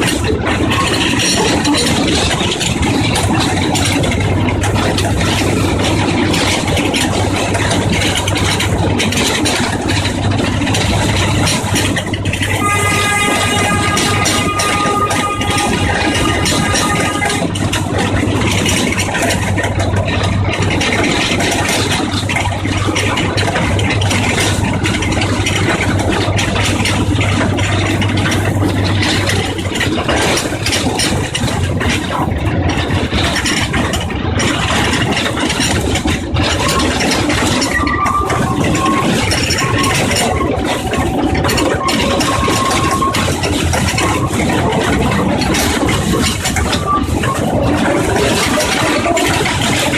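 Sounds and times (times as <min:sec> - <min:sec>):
cars rattling along track: 0:00.0 - 0:49.9
trolley train engine running: 0:00.0 - 0:49.9.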